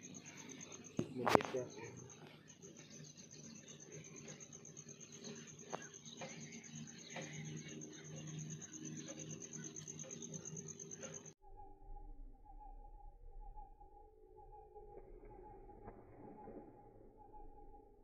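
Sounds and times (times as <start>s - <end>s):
insect trill: 0.0s - 18.0s
low hum: 0.0s - 18.0s.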